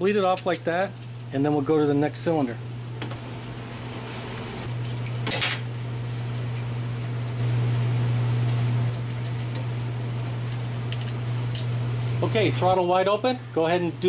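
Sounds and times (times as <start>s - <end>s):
cooler fan humming: 0.0s - 14.0s.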